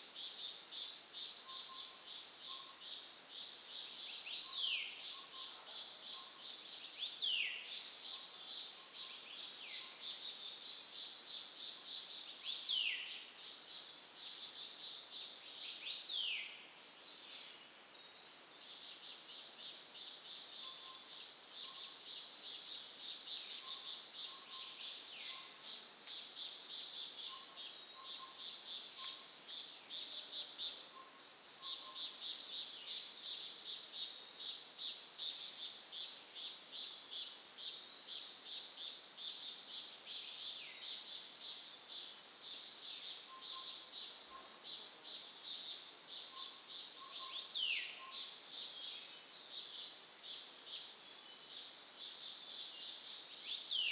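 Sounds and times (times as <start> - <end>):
high-pitched pulsing insect chorus: 0.0 - 53.9.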